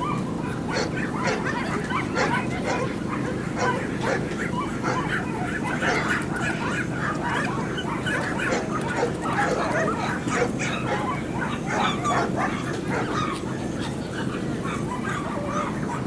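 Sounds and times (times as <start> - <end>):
dogs barking and yapping: 0.0 - 16.0.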